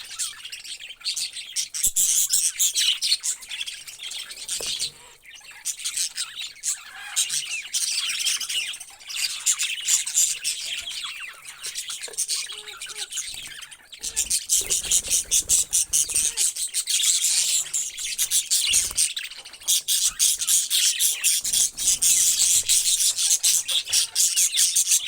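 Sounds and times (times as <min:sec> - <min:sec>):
parrots chattering and squawking: 0:00.0 - 0:25.0.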